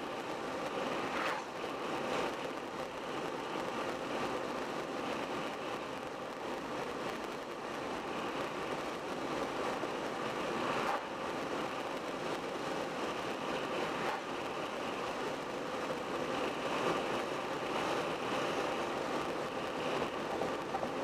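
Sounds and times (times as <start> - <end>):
car tyre and wind noise: 0.0 - 21.0.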